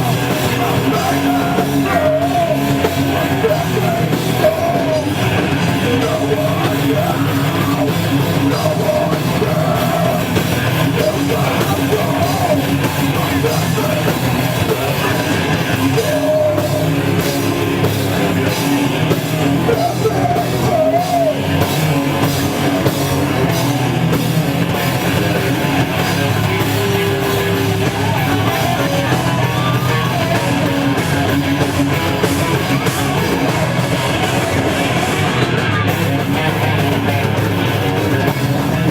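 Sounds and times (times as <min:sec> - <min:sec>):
live heavy metal band: 0:00.0 - 0:38.9.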